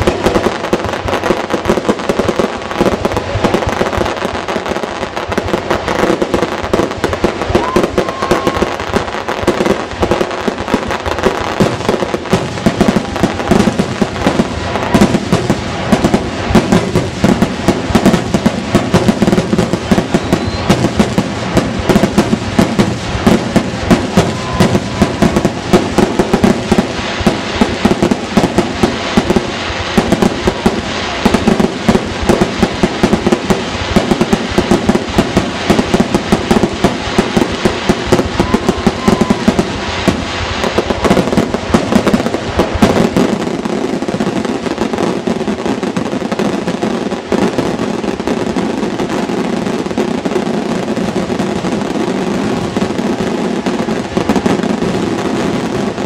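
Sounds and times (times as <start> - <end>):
fireworks bangs: 0.0 - 56.0
fireworks crackle and rumble: 0.0 - 56.0.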